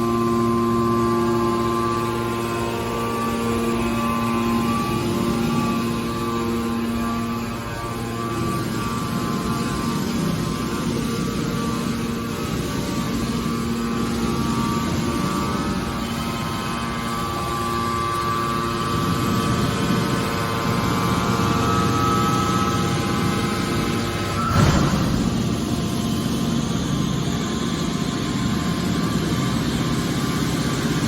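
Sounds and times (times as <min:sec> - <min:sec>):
hydraulic baler drone: 0:00.0 - 0:31.0
machine whine: 0:00.0 - 0:31.0.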